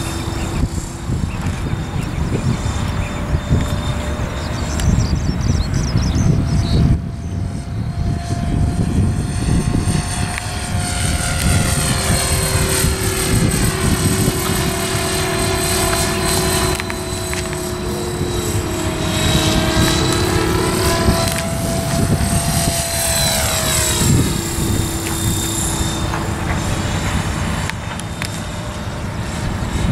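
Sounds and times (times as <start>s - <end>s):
model helicopter rotor whine: 0.0s - 29.9s.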